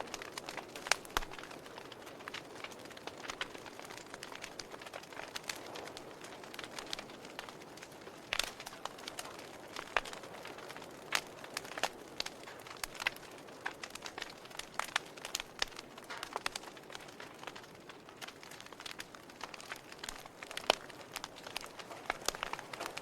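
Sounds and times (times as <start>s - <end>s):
campfire crackling and popping: 0.0s - 23.0s
soft steady fire hiss: 0.0s - 23.0s.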